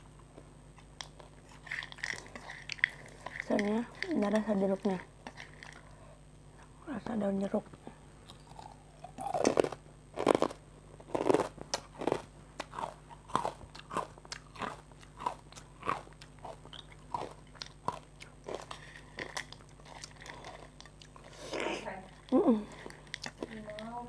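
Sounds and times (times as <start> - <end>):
person chewing crunchy food: 0.7 - 6.0, 8.2 - 23.9.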